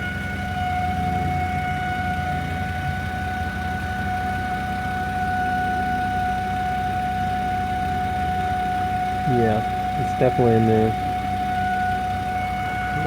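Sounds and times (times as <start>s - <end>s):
car engine running: 0.0s - 13.0s
high-pitched steady hum: 0.0s - 13.0s.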